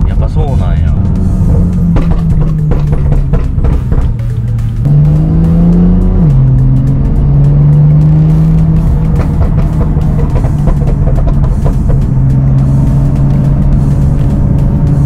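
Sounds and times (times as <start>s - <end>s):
car engine accelerating: 0.0s - 15.0s
music playing: 0.0s - 15.0s.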